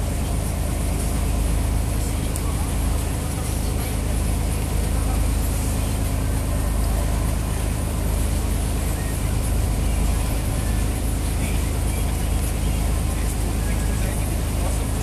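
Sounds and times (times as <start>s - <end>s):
motorboat engine running: 0.0s - 15.0s
water wake churning: 0.0s - 15.0s.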